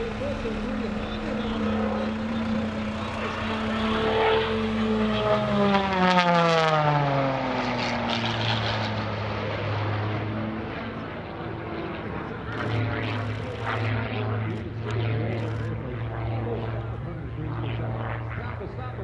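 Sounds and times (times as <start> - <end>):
propeller plane passing: 0.0 - 19.0.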